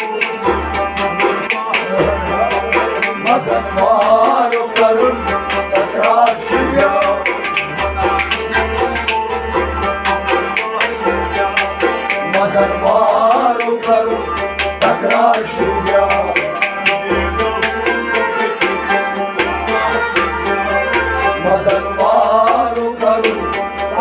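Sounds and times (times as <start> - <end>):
hand drum beating: 0.0 - 24.0
harmonium melody: 0.0 - 24.0.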